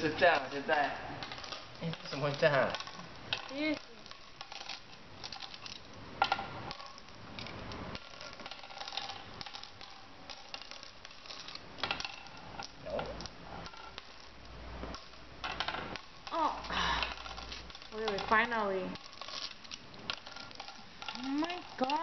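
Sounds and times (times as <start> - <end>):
game pieces clicking and clattering: 0.0 - 22.0.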